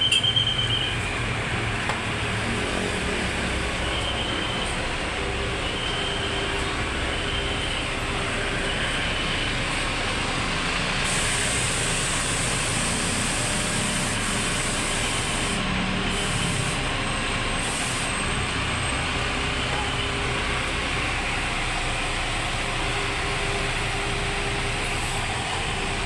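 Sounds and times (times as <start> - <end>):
bus engine running: 0.0 - 26.0
road noise: 0.0 - 26.0.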